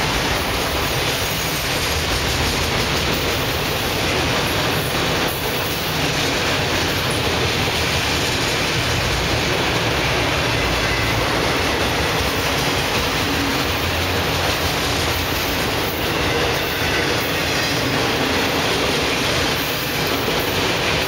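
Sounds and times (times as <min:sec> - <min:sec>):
steel wheels rumbling on rail: 0:00.0 - 0:21.0.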